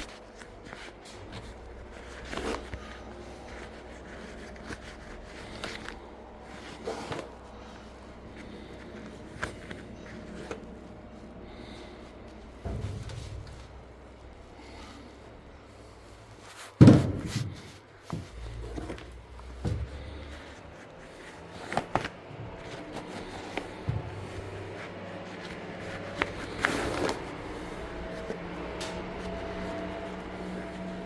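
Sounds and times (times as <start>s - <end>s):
washing machine parts being handled: 0.0s - 31.0s.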